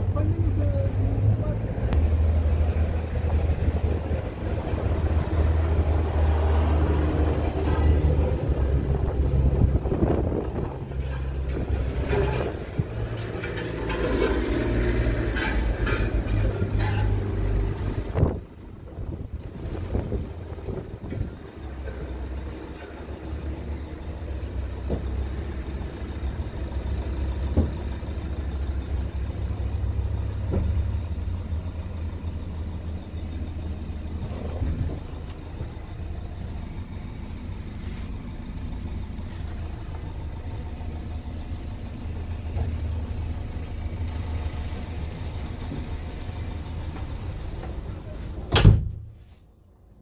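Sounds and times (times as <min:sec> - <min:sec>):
truck diesel engine idling: 0:00.0 - 0:48.6.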